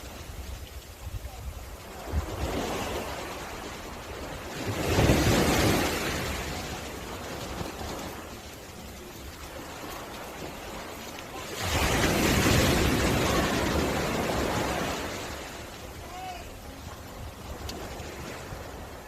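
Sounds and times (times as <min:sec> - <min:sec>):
surf washing on beach: 0:00.0 - 0:19.0
wave breaking: 0:00.0 - 0:19.0.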